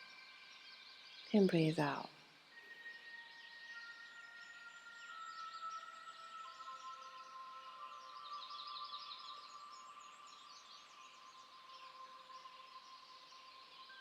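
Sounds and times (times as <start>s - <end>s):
birdsong chirps and warbles: 0.0s - 14.0s.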